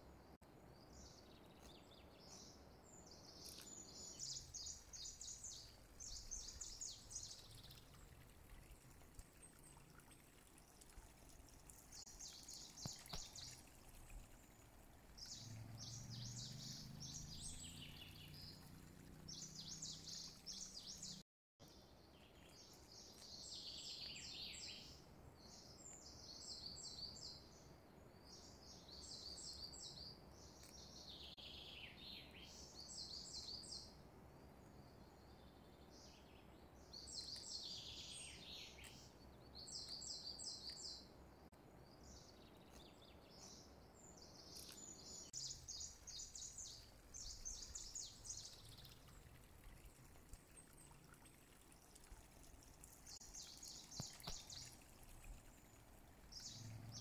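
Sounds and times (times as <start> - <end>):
faint bird chirping: 0.0 - 57.0
low steady hiss: 0.0 - 57.0.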